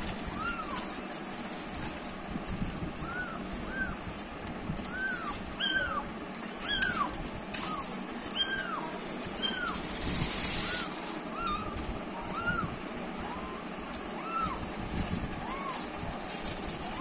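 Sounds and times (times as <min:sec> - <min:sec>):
kittens mewing: 0:00.0 - 0:02.0, 0:02.8 - 0:17.0
rustling: 0:00.0 - 0:17.0.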